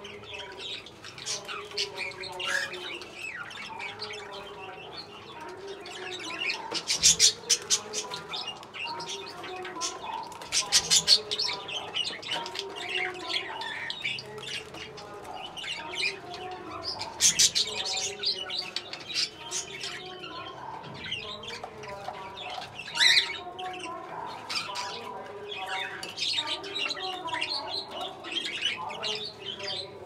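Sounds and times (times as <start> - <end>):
budgerigars chattering: 0.0 - 30.0.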